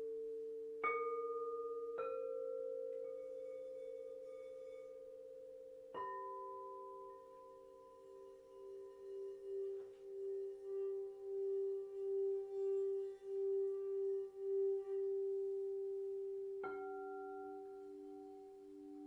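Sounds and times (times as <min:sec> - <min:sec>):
singing bowl ringing with wand: 0:00.0 - 0:19.0.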